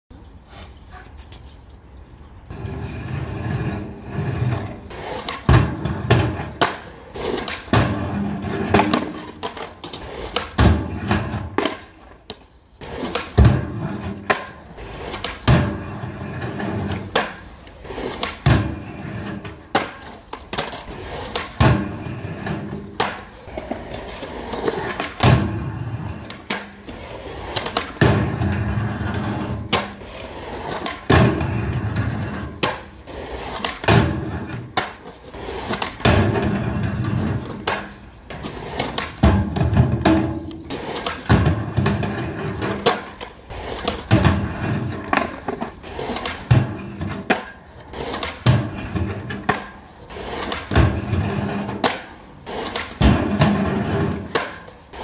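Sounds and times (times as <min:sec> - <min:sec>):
skateboard wheels rolling on concrete: 0:00.1 - 0:55.0
skateboard clacking: 0:02.5 - 0:55.0.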